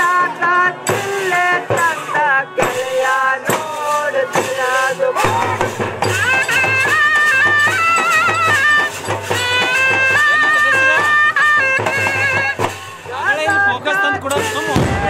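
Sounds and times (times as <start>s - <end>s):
drum beats: 0.0s - 15.0s
reed wind instrument melody: 1.0s - 15.0s.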